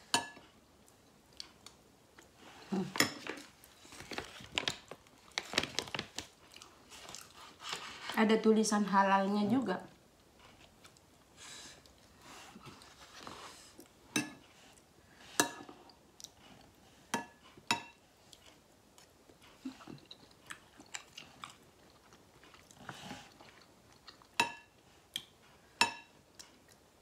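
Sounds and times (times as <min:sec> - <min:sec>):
soft chewing: 0:00.4 - 0:02.8, 0:03.4 - 0:08.2, 0:10.2 - 0:14.9, 0:15.6 - 0:27.0.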